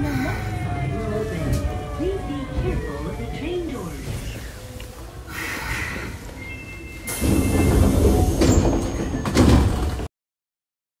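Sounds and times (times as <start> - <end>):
subway train rumble: 0.0 - 10.1
train doors sliding: 1.0 - 10.1.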